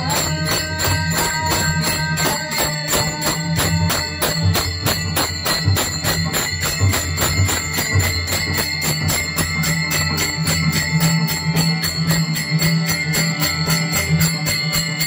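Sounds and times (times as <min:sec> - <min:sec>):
drum strokes: 0:00.0 - 0:15.0
hand cymbals clashing: 0:00.0 - 0:15.0.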